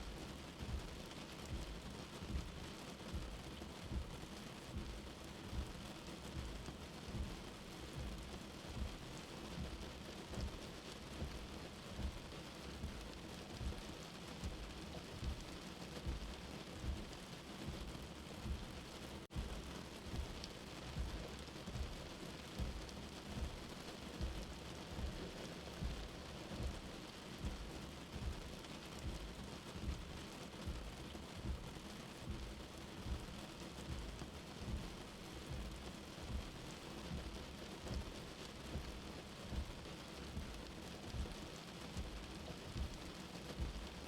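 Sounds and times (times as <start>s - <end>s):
steady rain: 0.0s - 44.0s
heartbeat thumping: 0.1s - 44.0s.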